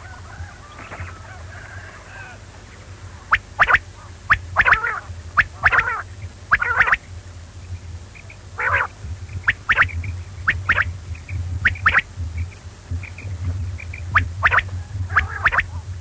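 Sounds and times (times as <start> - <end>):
quail calling: 0.0 - 16.0
steady low hum: 0.0 - 16.0.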